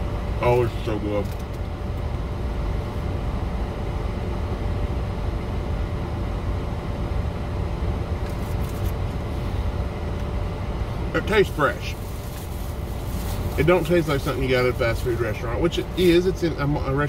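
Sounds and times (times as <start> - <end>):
low rumble inside car: 0.0 - 17.0.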